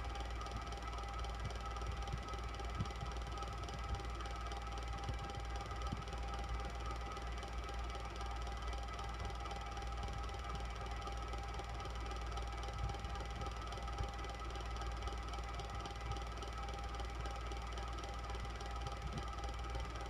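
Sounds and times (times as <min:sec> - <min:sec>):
electric fan whirring: 0:00.0 - 0:20.0.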